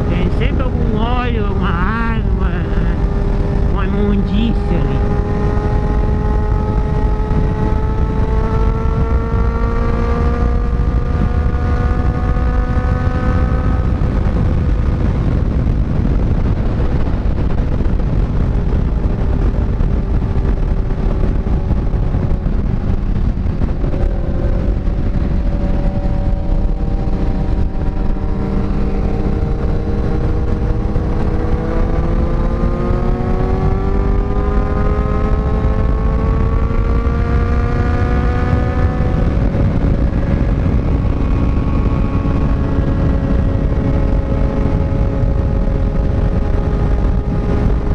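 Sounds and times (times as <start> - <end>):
motorcycle engine accelerating: 0.0 - 47.9
wind rushing over microphone: 0.0 - 47.9.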